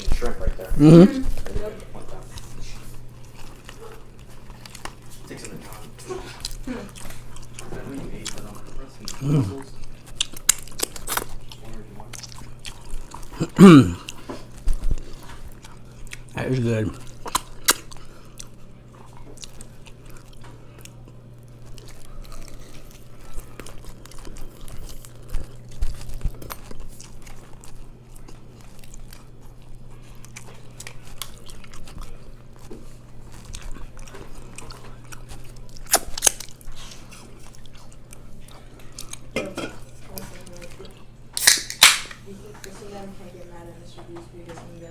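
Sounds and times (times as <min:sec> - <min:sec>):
person chewing food: 0:00.0 - 0:42.2.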